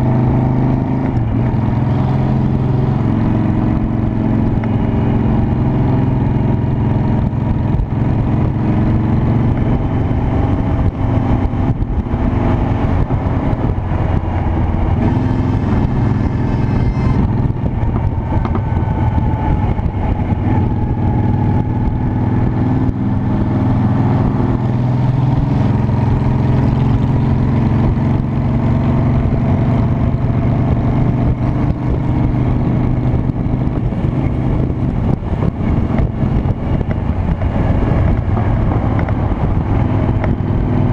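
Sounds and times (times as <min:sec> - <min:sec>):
motorcycle engine running: 0:00.0 - 0:40.9
road noise: 0:00.0 - 0:40.9
wind noise: 0:00.0 - 0:40.9.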